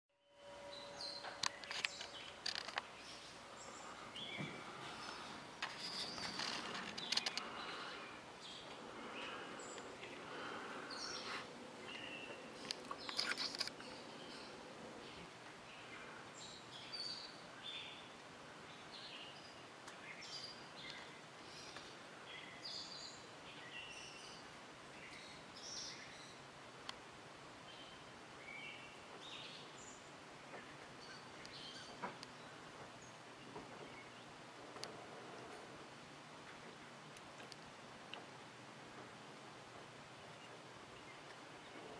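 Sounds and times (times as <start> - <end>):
birds chirping: 0.2 - 41.9
steady outdoor hiss: 0.2 - 41.9.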